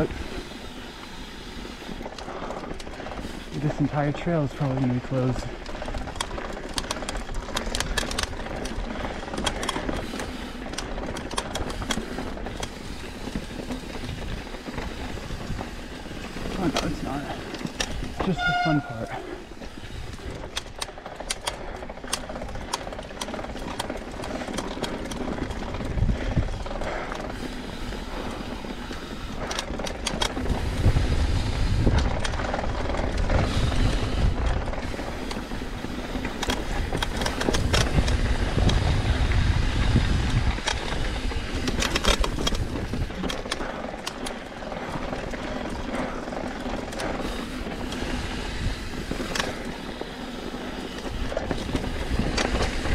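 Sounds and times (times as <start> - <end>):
bike rattling over rocks: 0.0 - 52.9
bike tyre and wind noise: 0.0 - 52.9.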